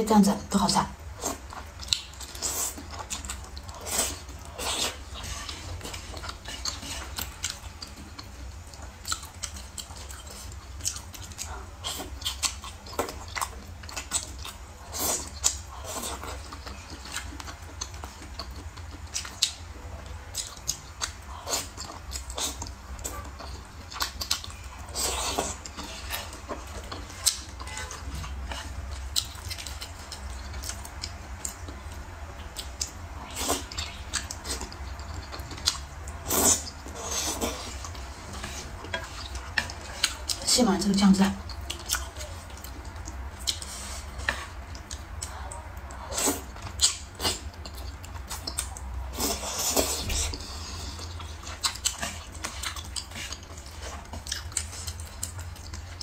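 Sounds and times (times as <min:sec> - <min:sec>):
person chewing food: 0:01.0 - 0:40.6, 0:41.2 - 0:56.0.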